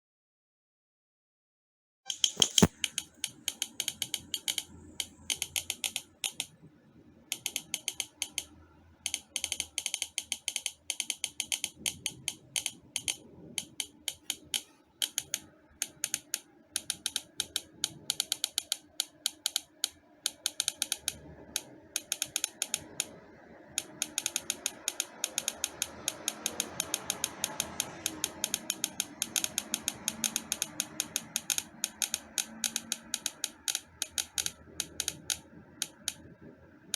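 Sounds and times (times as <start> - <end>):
rapid sharp clicks: 2.1 - 36.9.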